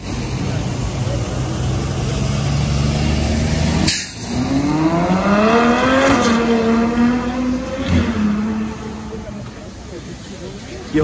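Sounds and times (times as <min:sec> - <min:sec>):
passing traffic rumble: 0:00.0 - 0:11.0
sports car accelerating: 0:00.2 - 0:10.3.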